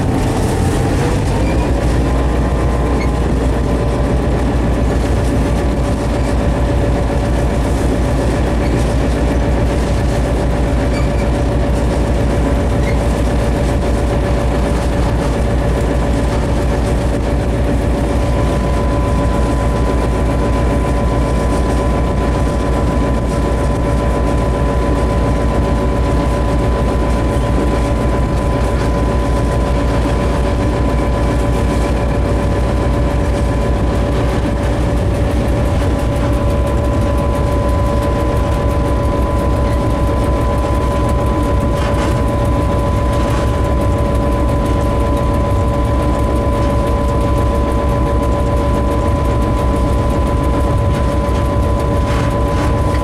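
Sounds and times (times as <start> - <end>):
locomotive engine rumble: 0.0 - 53.0
steady whine: 0.0 - 53.0.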